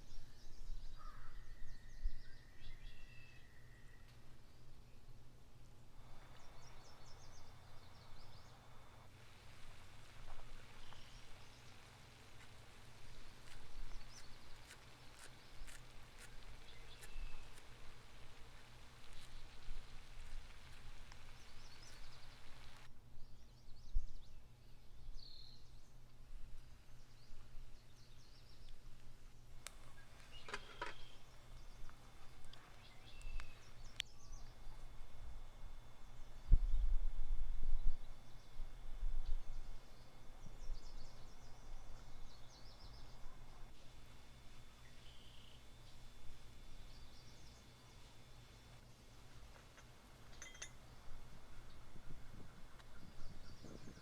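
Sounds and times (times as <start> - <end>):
faint bird chirps: 0.0 - 5.2, 6.0 - 26.0, 29.6 - 48.8, 50.4 - 54.0.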